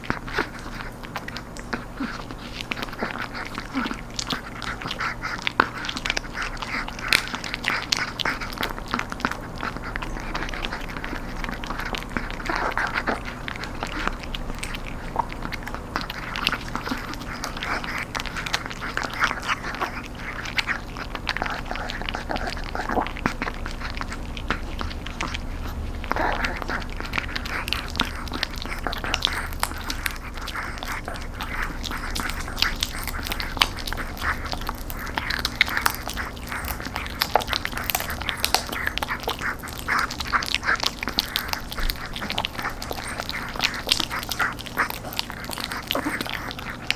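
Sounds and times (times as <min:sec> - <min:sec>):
dog crunching a treat: 0:00.0 - 0:46.9.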